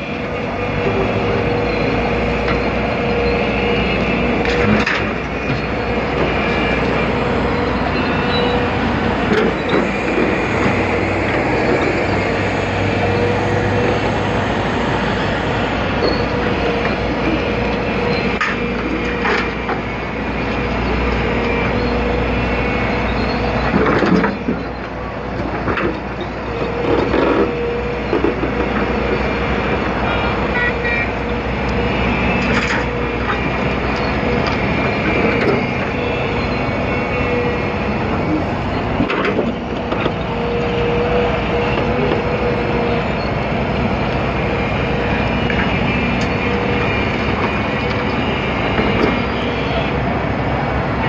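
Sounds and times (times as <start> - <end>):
excavator diesel engine running: 0.0 - 51.0
hydraulic whine: 0.0 - 51.0.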